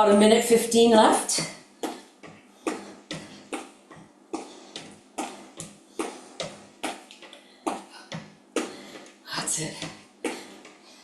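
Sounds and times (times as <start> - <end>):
footsteps on floor: 1.4 - 10.8
shoes tapping on chair: 1.4 - 10.8.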